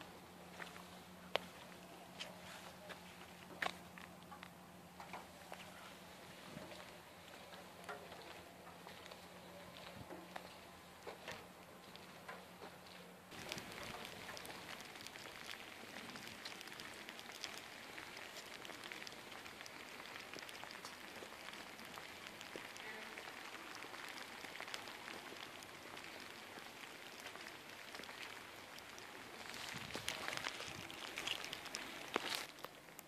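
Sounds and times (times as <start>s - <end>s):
light rain falling: 0.0s - 33.0s.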